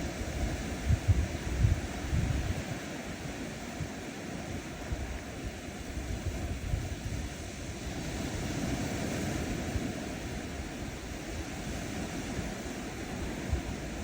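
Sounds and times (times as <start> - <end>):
ocean waves on sandy shore: 0.0 - 14.0
wind rumble on microphone: 0.0 - 14.0.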